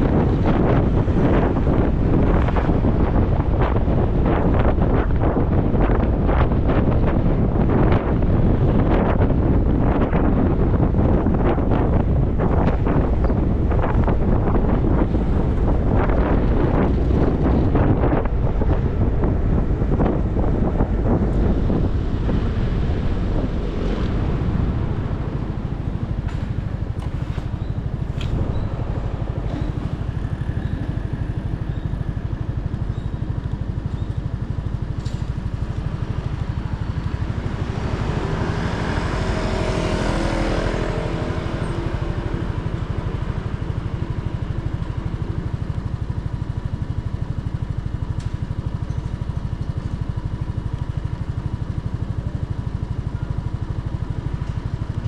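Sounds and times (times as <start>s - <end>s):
motorcycle engine rumble: 0.0s - 55.0s
road noise: 0.0s - 55.0s.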